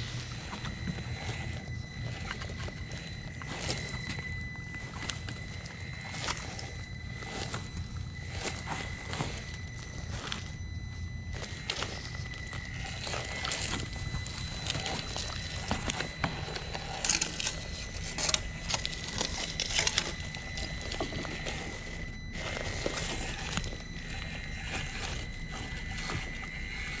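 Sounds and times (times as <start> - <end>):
small electric motor whining: 0.0 - 27.0
tires crunching over wood debris: 0.0 - 27.0.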